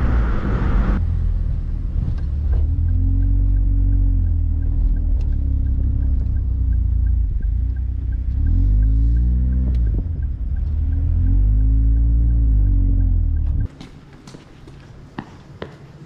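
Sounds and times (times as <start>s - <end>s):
car engine running: 0.0s - 13.7s
road rumble: 0.0s - 16.0s.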